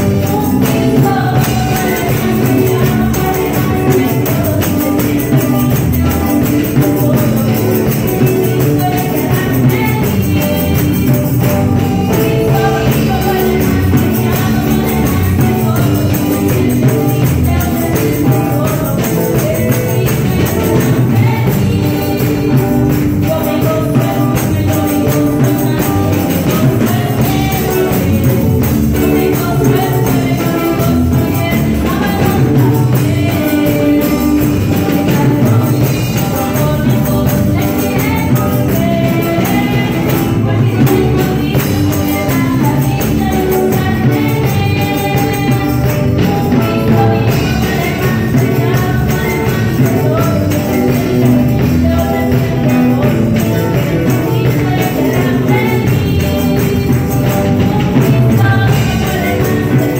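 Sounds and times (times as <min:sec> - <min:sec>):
band with bass and percussion: 0:00.0 - 0:59.9
woman singing into a microphone: 0:00.0 - 0:59.9.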